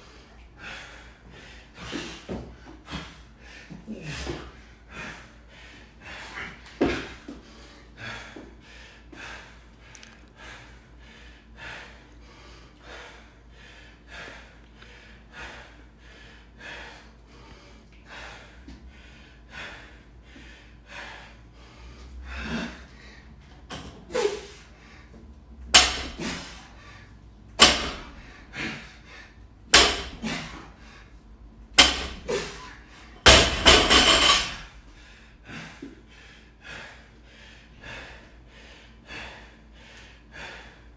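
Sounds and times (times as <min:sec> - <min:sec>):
man panting hard: 0:00.0 - 0:40.9.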